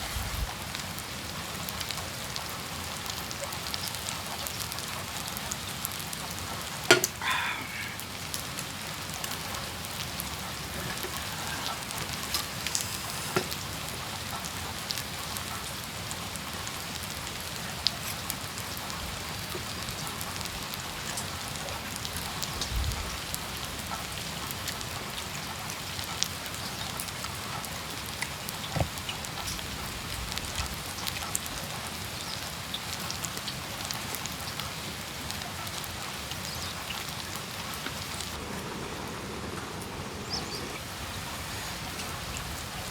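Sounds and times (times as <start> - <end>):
raindrops ticking on surfaces: 0.0 - 42.9
steady rain falling: 0.0 - 42.9.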